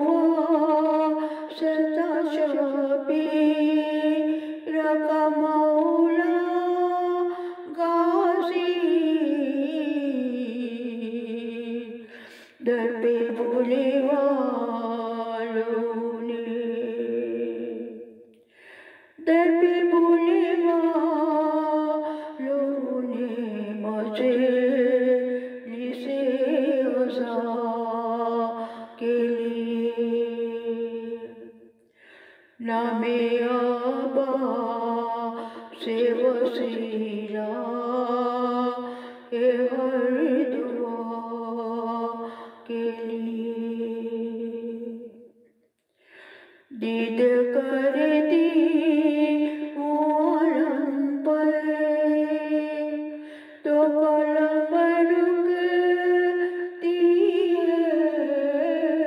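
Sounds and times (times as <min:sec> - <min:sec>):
woman chanting unaccompanied: 0:00.0 - 0:18.2, 0:19.2 - 0:31.6, 0:32.6 - 0:45.1, 0:46.7 - 0:59.0.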